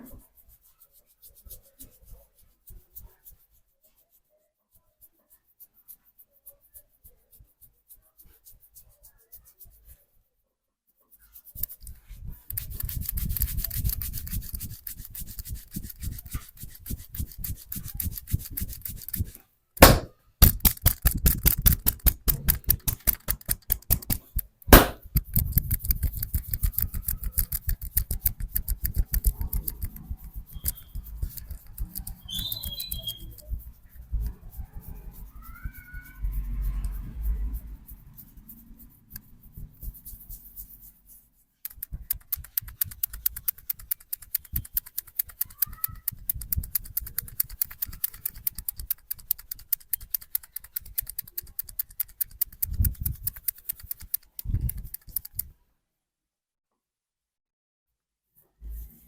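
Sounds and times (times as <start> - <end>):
hands rubbing and patting head: 0.0 - 10.1, 11.1 - 55.5.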